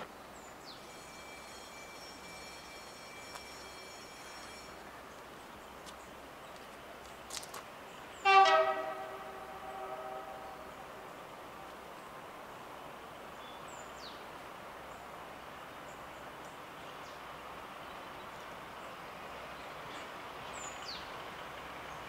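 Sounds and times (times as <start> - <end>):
distant locomotive approaching: 0.0 - 22.0.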